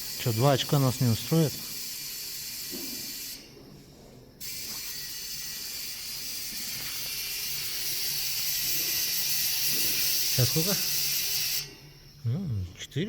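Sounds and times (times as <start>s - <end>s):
compressed air hissing: 0.0s - 12.2s.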